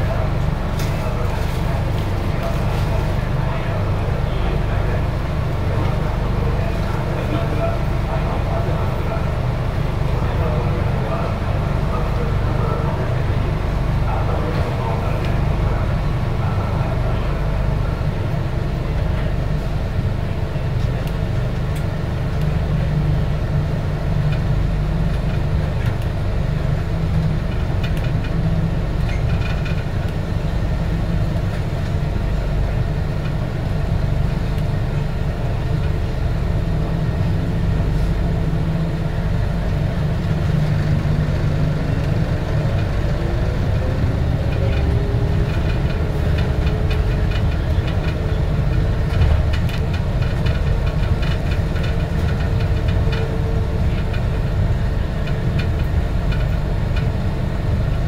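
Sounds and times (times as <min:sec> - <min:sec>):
train car interior rumble: 0:00.0 - 0:58.0.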